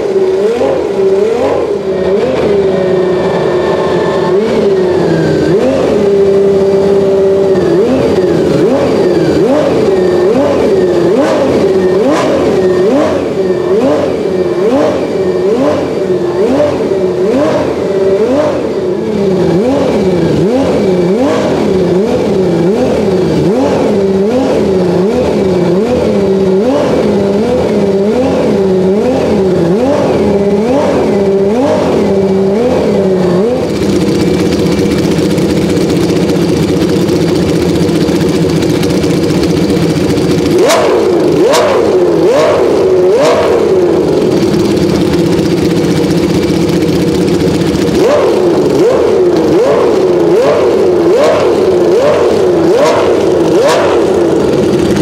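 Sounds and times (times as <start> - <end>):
engine idling: 0.0 - 55.0
racing car engine revving: 0.0 - 55.0.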